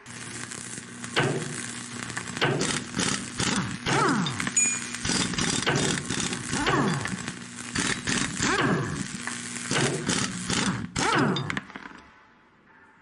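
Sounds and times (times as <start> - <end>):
metal cutting hiss and whine: 0.0 - 12.1
steady low hum: 0.0 - 13.0.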